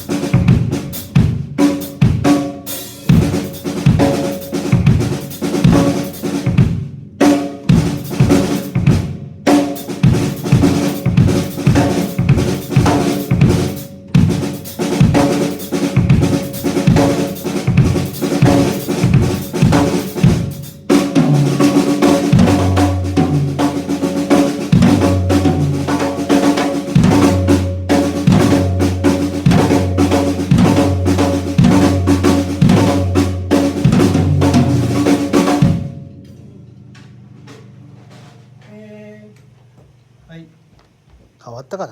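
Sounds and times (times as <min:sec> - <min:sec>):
drum kit groove: 0:00.0 - 0:38.6.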